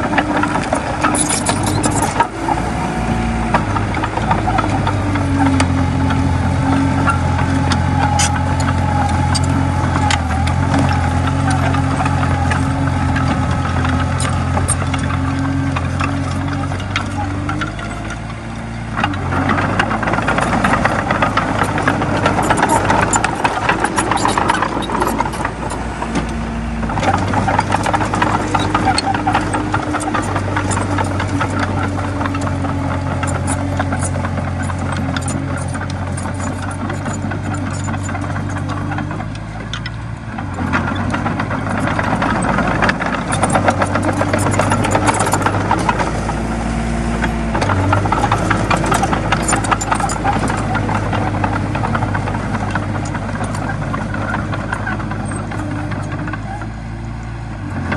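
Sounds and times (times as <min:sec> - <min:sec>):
clattering rattle: 0:00.0 - 0:02.3, 0:03.5 - 0:56.8
bulldozer diesel engine running hard: 0:00.0 - 0:57.9.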